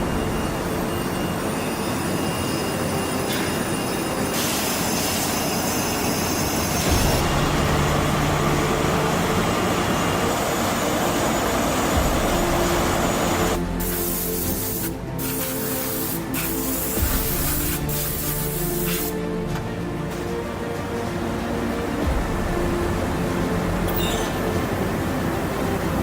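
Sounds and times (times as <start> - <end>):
factory machinery rumbling and clattering: 0.0 - 26.0.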